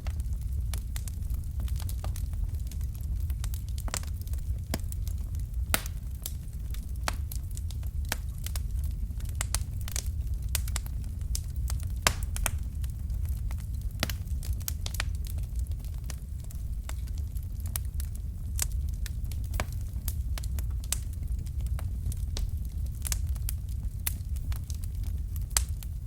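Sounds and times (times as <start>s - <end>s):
fire crackling: 0.0s - 26.0s
low rumble: 0.0s - 26.0s.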